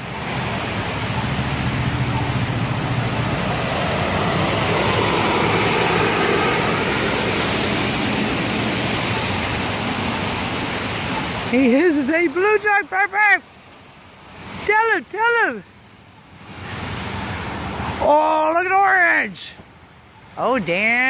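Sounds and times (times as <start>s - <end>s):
truck passing on highway: 0.0s - 19.0s.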